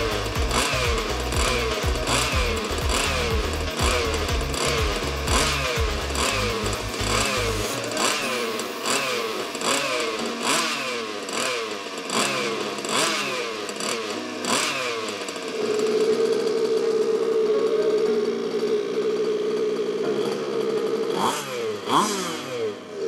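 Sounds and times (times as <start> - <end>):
small two-stroke engine revving: 0.0 - 23.0.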